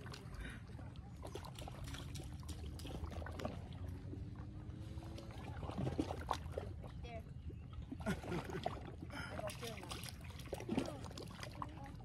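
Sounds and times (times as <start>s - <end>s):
water lapping at rocky shore: 0.0s - 12.0s.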